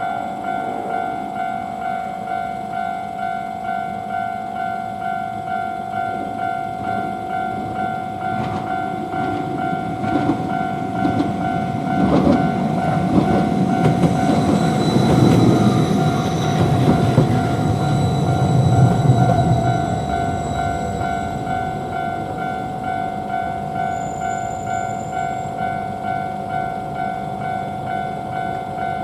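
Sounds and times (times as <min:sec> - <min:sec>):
crossing alarm bell ringing: 0:00.0 - 0:29.0
streetcar rumble: 0:00.0 - 0:29.0.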